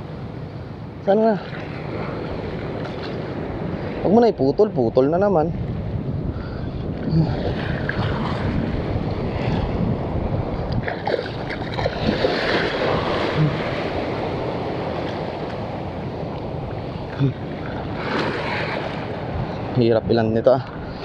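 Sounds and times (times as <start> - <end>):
waves washing on shore: 0.0 - 4.3, 5.6 - 20.0
wind buffeting microphone: 0.0 - 21.0.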